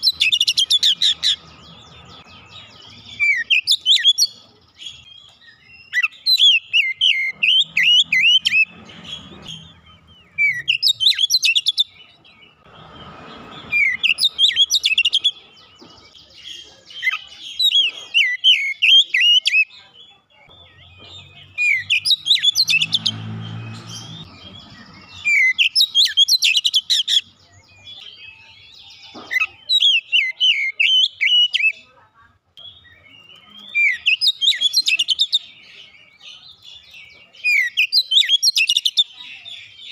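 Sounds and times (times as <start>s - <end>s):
bird singing chirps and whistles: 0.0s - 31.8s, 32.6s - 39.9s.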